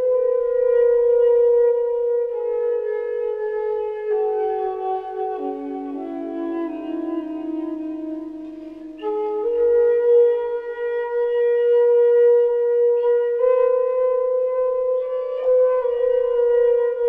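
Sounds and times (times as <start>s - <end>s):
slow meditative wind instrument music: 0.0s - 17.0s.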